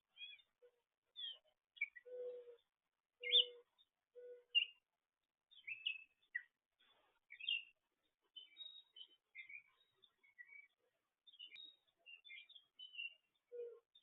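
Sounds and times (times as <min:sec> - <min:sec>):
songbirds chirping and twittering: 0:00.0 - 0:14.0.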